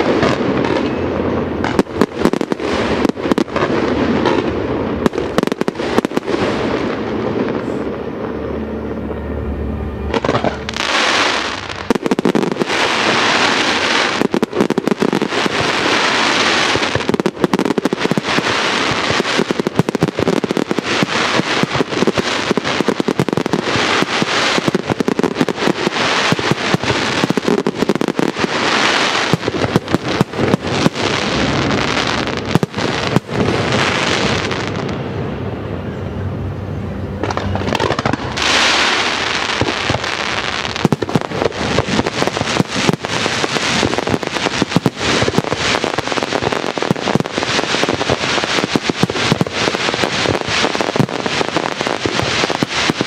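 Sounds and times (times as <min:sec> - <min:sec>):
fireworks bangs: 0:00.0 - 0:08.3, 0:10.1 - 0:35.5, 0:37.2 - 0:53.0
fireworks crackling: 0:00.0 - 0:09.2, 0:10.0 - 0:35.4, 0:37.2 - 0:53.0.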